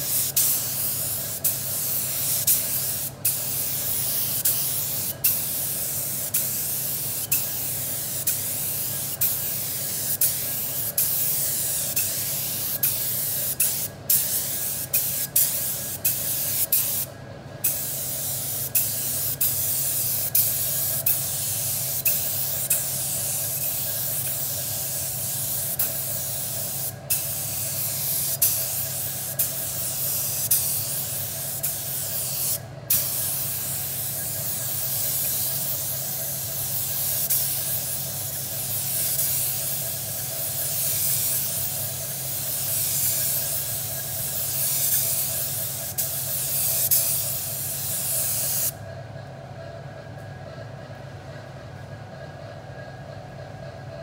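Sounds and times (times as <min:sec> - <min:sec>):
spray gun hissing: 0:00.0 - 0:48.8.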